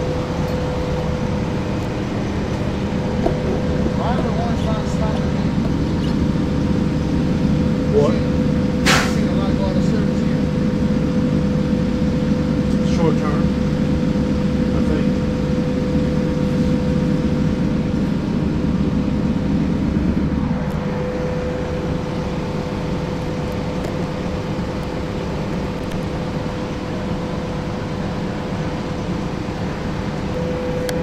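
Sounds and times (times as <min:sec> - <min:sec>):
bus engine running under load: 0:00.0 - 0:31.0
steady whine: 0:00.0 - 0:31.0.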